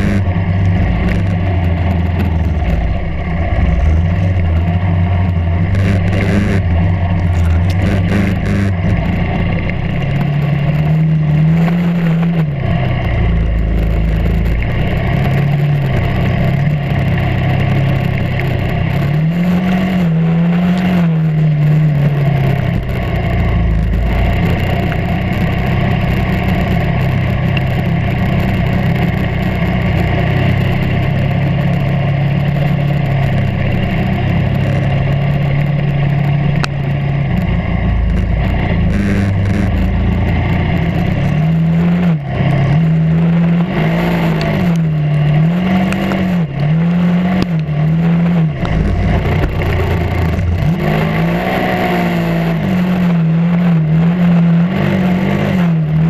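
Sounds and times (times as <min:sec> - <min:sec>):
buggy engine running hard: 0:00.0 - 0:56.0.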